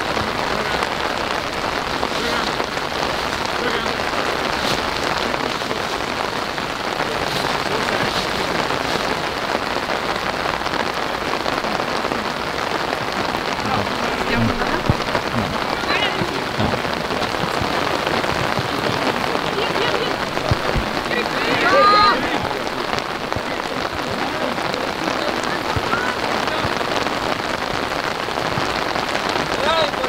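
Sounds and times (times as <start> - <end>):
steady hissing: 0.0 - 27.1.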